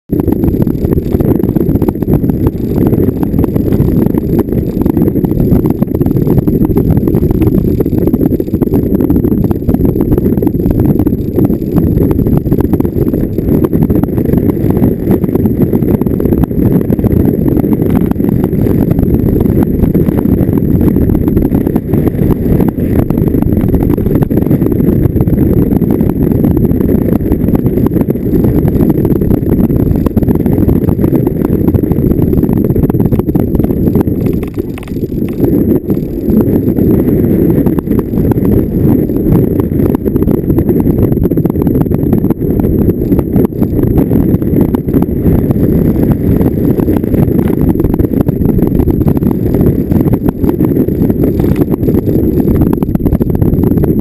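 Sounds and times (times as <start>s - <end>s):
vehicle rumbling off-road: 0.1s - 54.0s.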